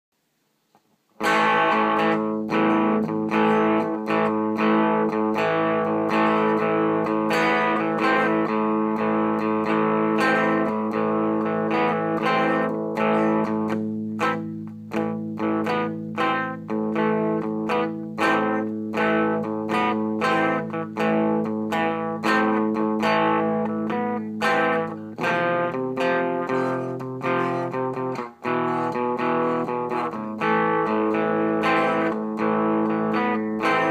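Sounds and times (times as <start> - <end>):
distorted electric guitar chords: 1.2 - 33.9.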